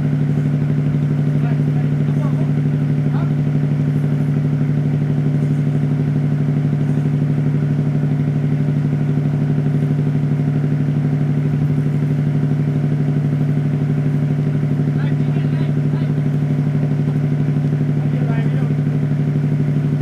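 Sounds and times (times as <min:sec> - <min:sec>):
boat engine throbbing: 0:00.0 - 0:20.0.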